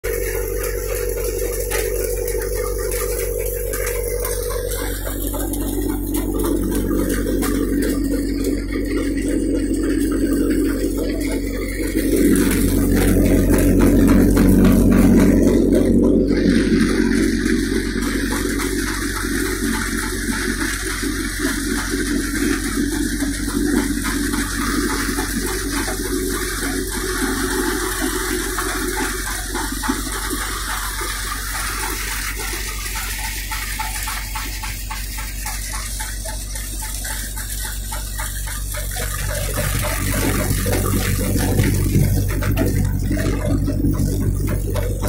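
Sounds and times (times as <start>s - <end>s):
low engine drone: 0.0s - 45.0s
threshing drum rattling churn: 0.0s - 45.0s.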